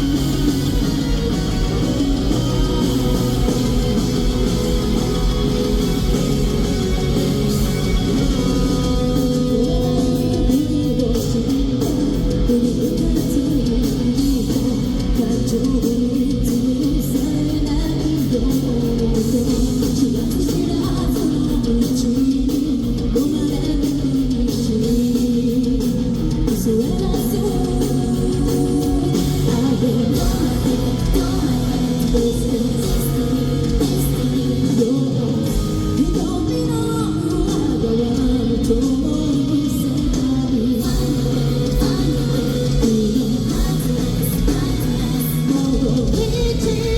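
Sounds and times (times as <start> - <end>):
lead singer: 0.0 - 46.9
live rock band playing: 0.0 - 46.9.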